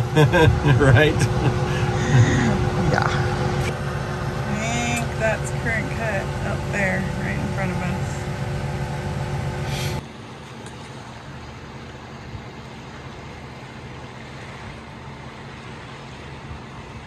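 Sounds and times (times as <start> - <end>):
boat motor hum: 0.0 - 17.0.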